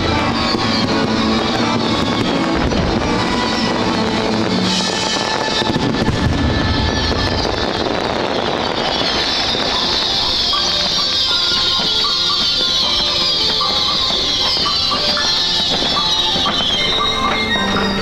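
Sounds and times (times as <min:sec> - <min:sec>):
fireworks bangs and crackle: 0:00.0 - 0:18.0
loud music: 0:00.0 - 0:18.0.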